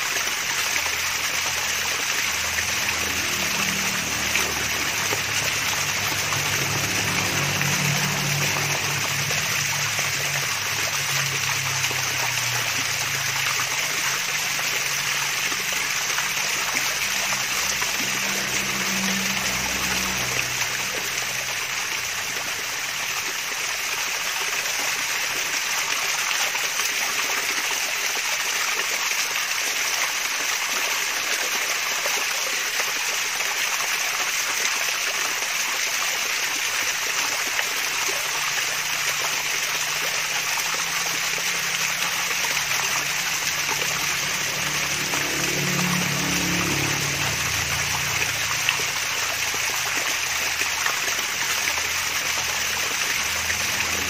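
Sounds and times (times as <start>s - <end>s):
waterfall splashing and trickling: 0.0s - 54.0s.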